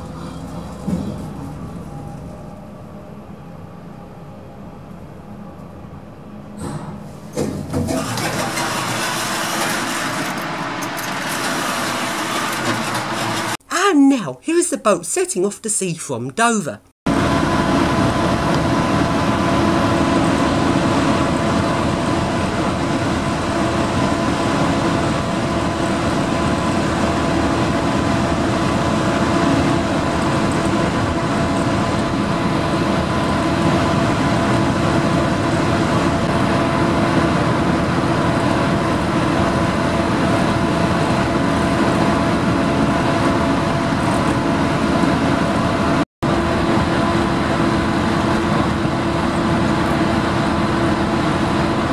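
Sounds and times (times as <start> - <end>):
ferry engine drone: 0.0 - 13.6, 17.1 - 51.9.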